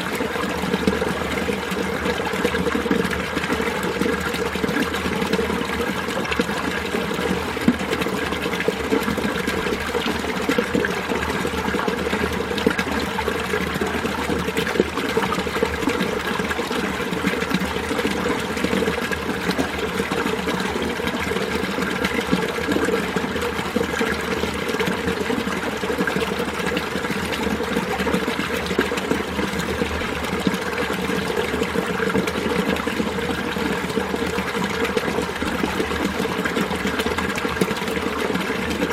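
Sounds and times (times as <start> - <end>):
stream flowing and babbling: 0.0 - 38.9.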